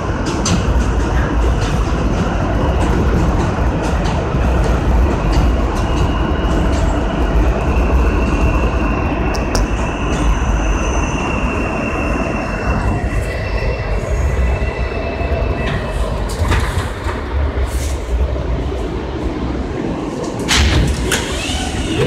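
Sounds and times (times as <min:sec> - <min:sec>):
subway car rumbling on track: 0:00.0 - 0:22.0.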